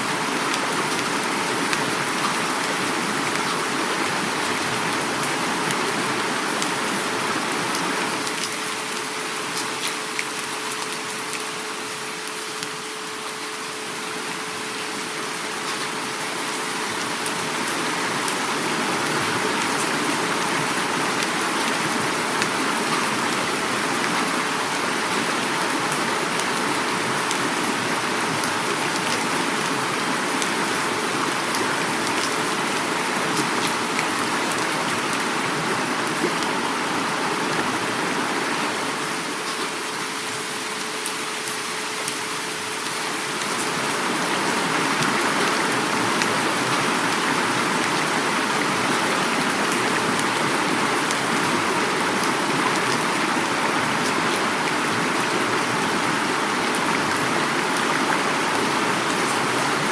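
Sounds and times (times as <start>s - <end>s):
heavy rain falling: 0.0s - 59.9s
river flowing: 0.0s - 59.9s.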